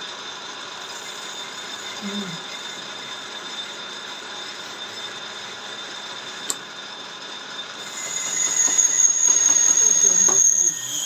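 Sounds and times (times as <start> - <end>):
metal lathe running: 0.0 - 11.0
high steady squeal: 0.6 - 11.0.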